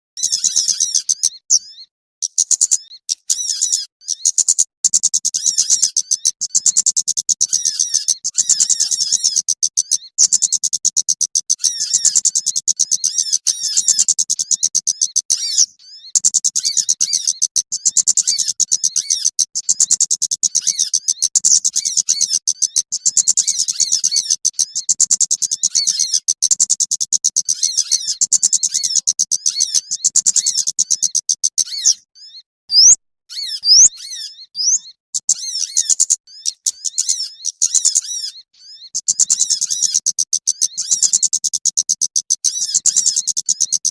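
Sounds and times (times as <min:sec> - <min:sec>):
songbirds twittering: 0:00.2 - 0:43.9.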